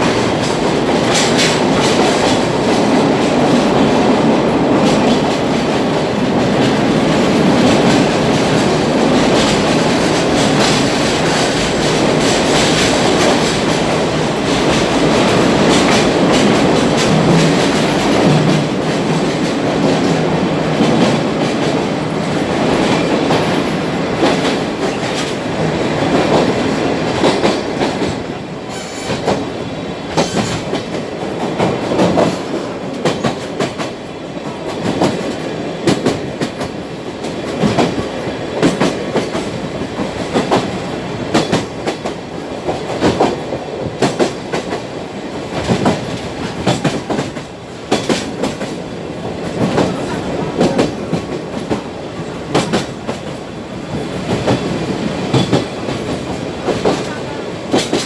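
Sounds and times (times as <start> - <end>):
steady train rumble: 0.0 - 58.0
train wheels clacking over rail joints: 0.0 - 58.0.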